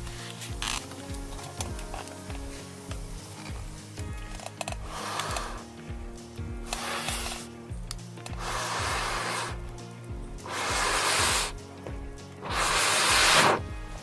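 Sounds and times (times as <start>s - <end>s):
air puffs through blowing pipe: 0.0s - 14.0s.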